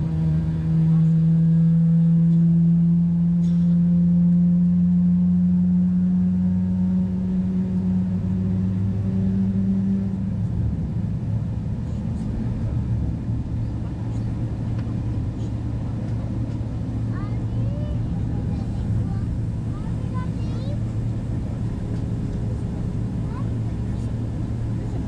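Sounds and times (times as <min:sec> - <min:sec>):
jet engine hum in cabin: 0:00.0 - 0:25.0
low rumble: 0:00.0 - 0:25.0.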